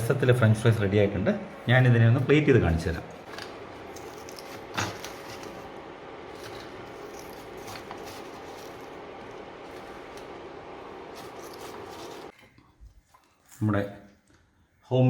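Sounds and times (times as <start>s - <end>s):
kitchen background noise: 0.0s - 14.6s.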